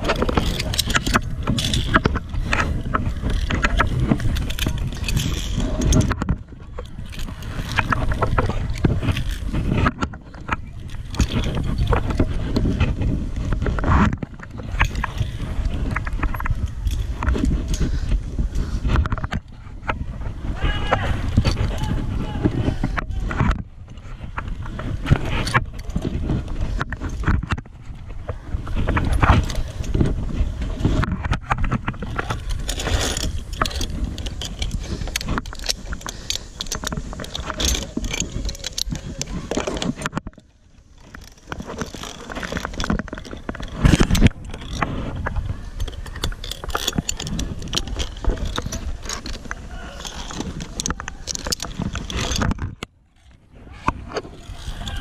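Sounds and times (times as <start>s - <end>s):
metal carabiners clinking on cable: 0.0s - 19.4s, 20.6s - 23.6s, 28.6s - 53.4s, 54.1s - 55.0s
wind rumbling on microphone: 0.0s - 55.0s.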